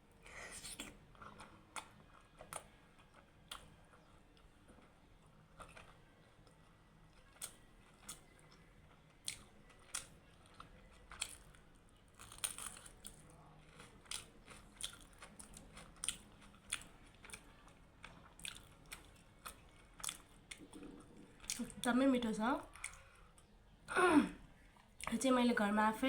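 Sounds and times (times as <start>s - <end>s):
person chewing with wet smacks: 0.6s - 21.9s, 22.7s - 23.6s.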